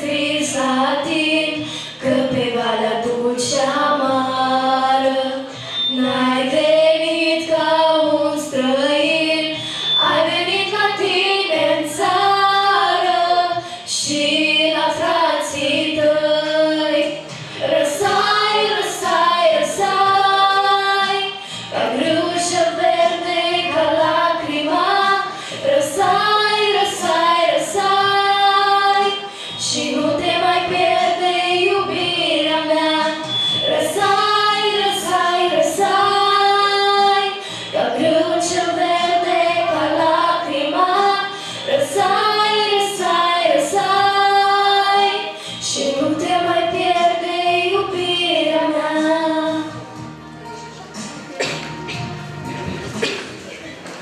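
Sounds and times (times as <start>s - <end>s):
girls singing into microphones: 0.0s - 50.6s.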